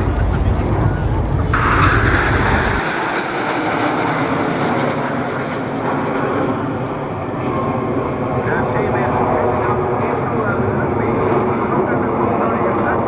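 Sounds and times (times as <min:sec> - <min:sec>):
jet engines passing overhead: 0:00.0 - 0:13.0.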